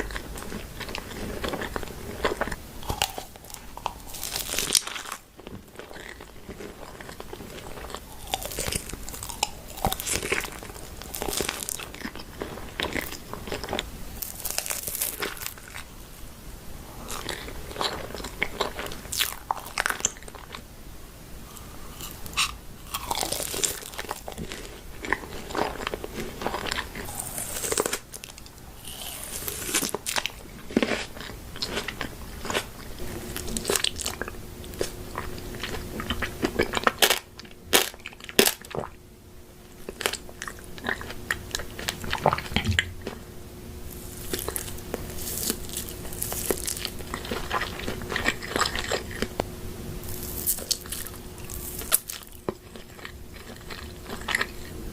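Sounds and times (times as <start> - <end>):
person chewing crunchy food: 0.0 - 15.9, 16.9 - 20.7, 21.4 - 39.0, 39.7 - 54.9.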